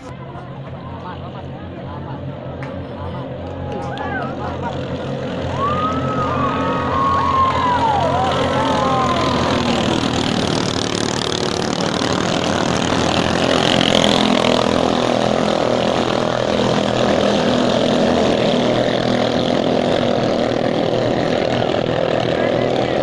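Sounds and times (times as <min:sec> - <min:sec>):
boat engines droning: 0:00.0 - 0:23.0.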